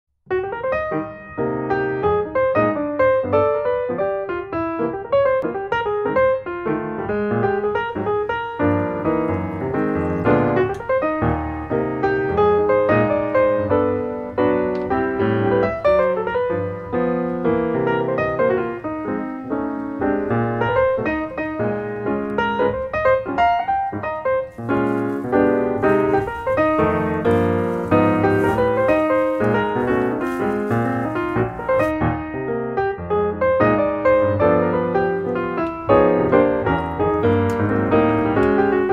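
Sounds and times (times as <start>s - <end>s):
piano music: 0.3s - 38.9s.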